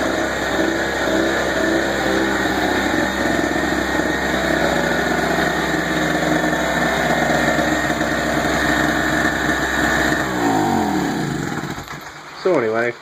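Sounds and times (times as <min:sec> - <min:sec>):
generator engine running: 0:00.0 - 0:12.6.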